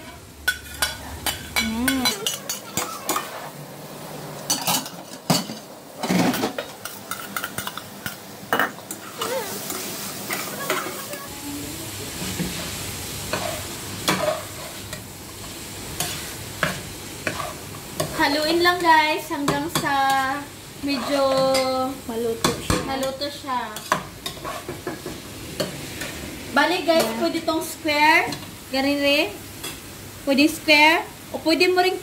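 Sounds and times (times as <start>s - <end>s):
sizzle of frying: 0.0s - 32.0s.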